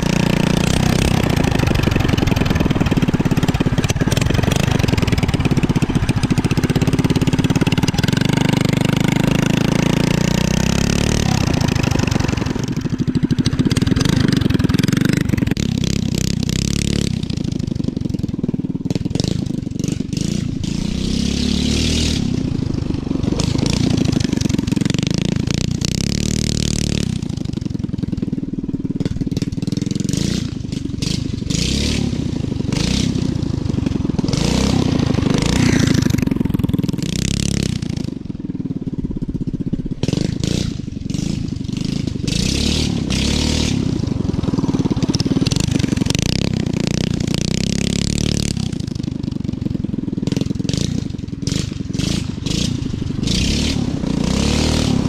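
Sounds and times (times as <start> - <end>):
mini bike engine: 0.0 - 55.0.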